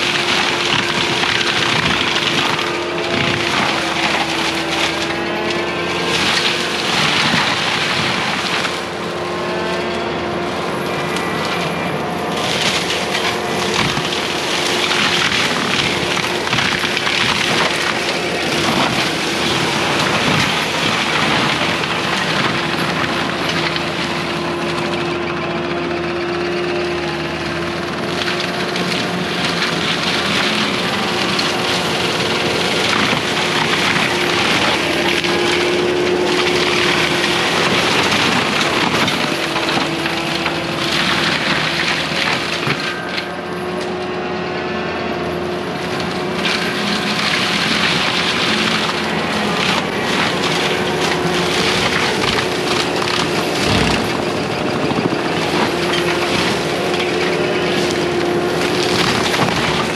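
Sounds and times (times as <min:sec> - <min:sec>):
forestry mulcher whining: 0:00.0 - 0:59.9.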